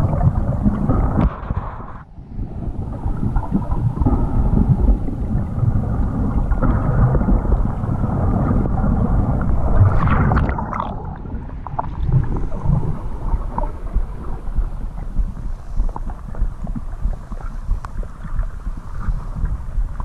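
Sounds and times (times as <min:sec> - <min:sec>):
underwater rush of moving water: 0:00.0 - 0:20.0.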